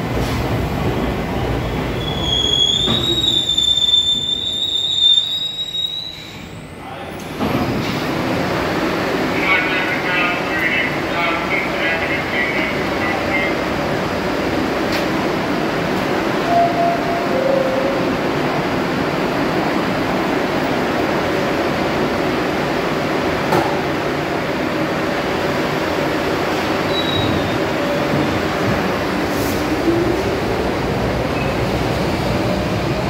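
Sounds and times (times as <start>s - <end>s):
subway car air-conditioning whirr: 6.0s - 33.0s.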